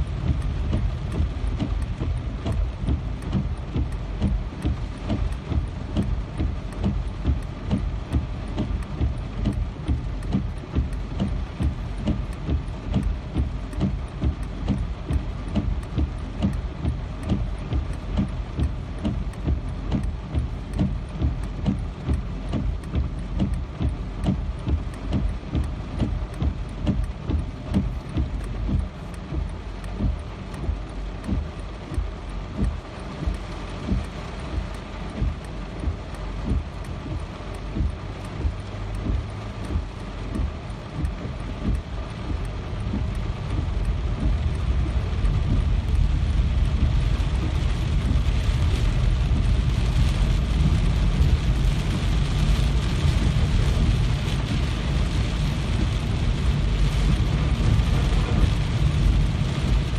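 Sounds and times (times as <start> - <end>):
heavy raindrops striking: 0.0 - 59.9
rain falling: 0.0 - 59.9.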